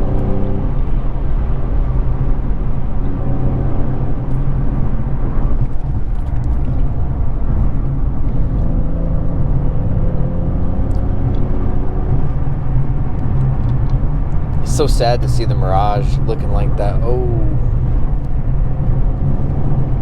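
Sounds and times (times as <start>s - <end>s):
car engine cruising: 0.0s - 20.0s.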